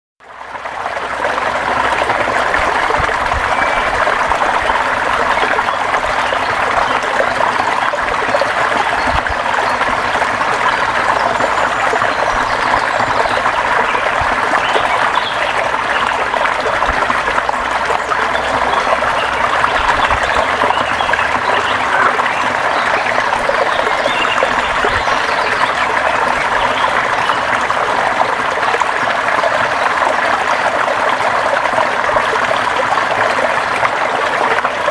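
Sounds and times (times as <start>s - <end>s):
river water flowing over rocks: 0.2s - 34.9s.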